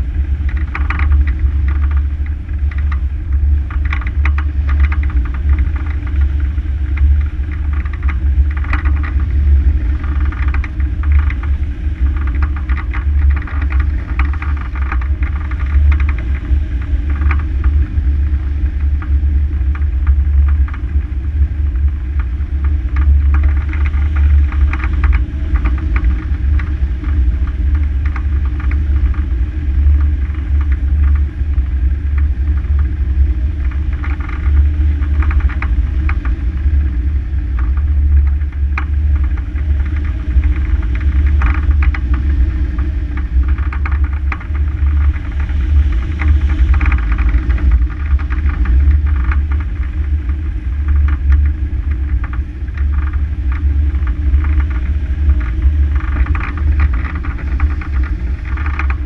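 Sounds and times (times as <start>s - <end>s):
wind gusts crackling on microphone: 0.0s - 59.0s
wind rushing low rumble: 0.0s - 59.0s.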